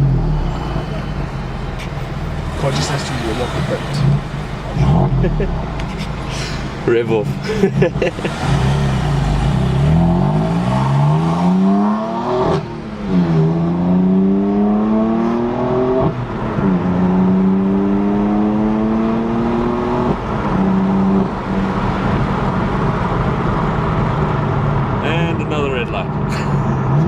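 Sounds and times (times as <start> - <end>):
car engine accelerating with gear shifts: 0.0 - 27.0.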